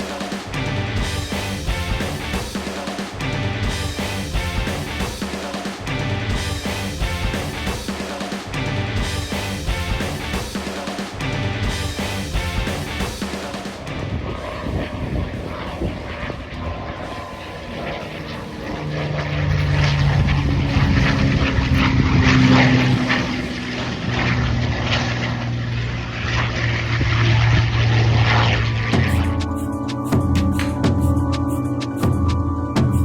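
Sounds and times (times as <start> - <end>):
propeller airplane engine drone: 0.0 - 33.0.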